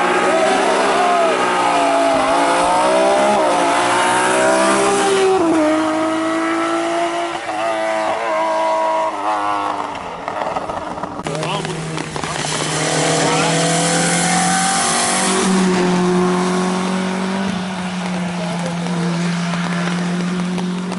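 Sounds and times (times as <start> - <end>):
rally car engine revving: 0.0 - 20.9.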